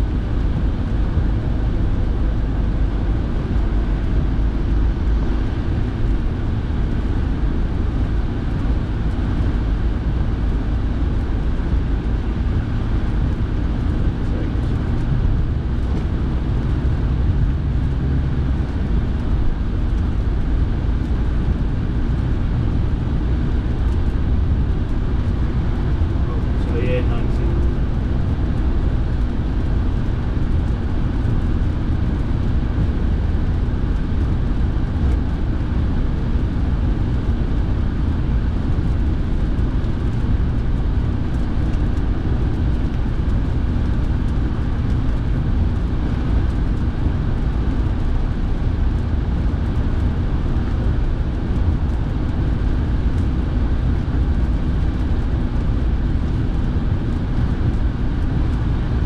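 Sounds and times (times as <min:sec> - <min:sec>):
car engine: 0:00.0 - 0:59.0
heater fan blowing: 0:00.0 - 0:59.0.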